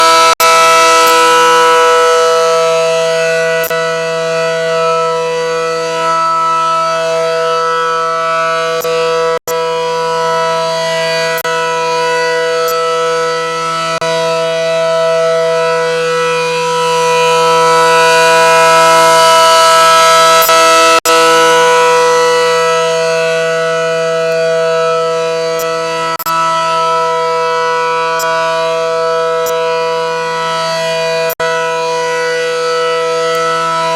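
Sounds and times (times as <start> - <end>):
warning siren steady tone: 0.0 - 33.9.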